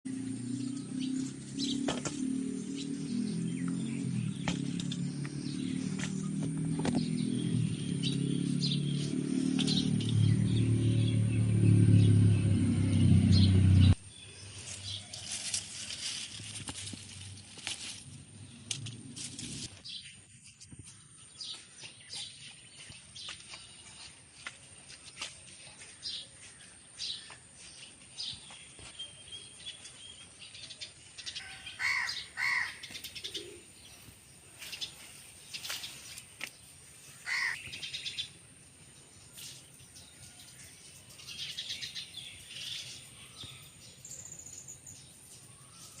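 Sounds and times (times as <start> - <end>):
birds chirping: 0.0 - 17.4, 18.0 - 46.0.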